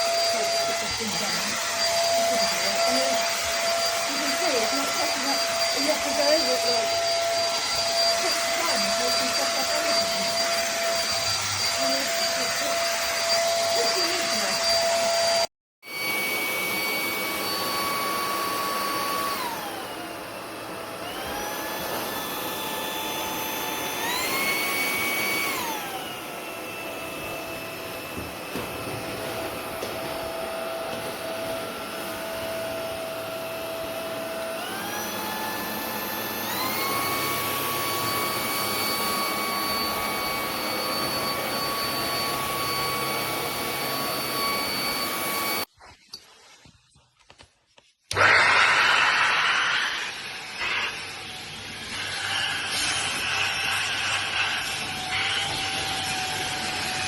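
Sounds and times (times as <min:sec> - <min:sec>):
vacuum cleaner running: 0:00.0 - 0:45.7, 0:48.1 - 0:57.0.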